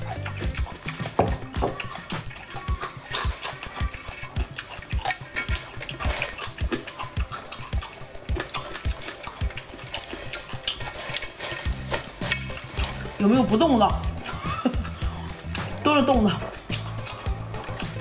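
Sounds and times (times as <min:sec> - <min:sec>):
crabs clicking and clattering: 0:00.0 - 0:18.0.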